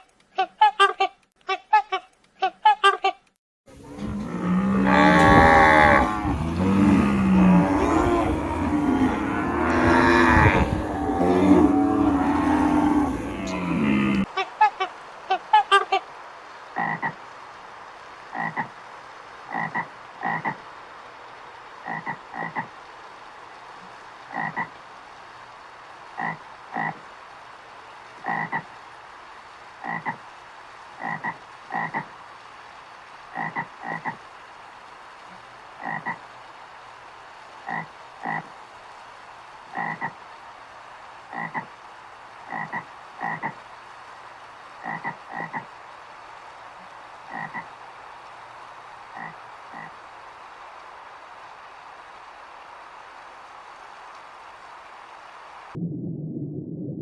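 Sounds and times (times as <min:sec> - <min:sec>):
faint hiss: 0:03.7 - 0:55.8
frog croaking: 0:03.8 - 0:53.2.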